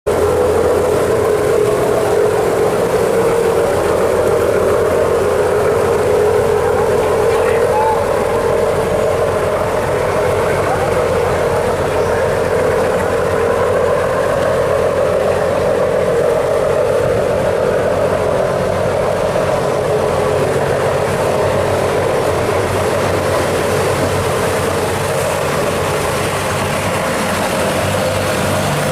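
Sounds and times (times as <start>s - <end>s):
boat engine drone: 0.1s - 28.9s.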